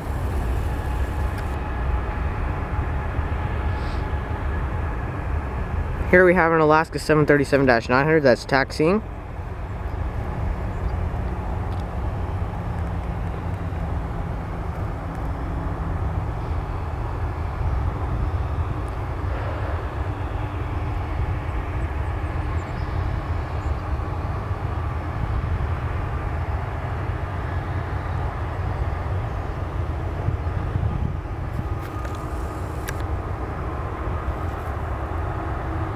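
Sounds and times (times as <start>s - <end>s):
jet engines low rumble: 0.0s - 35.9s.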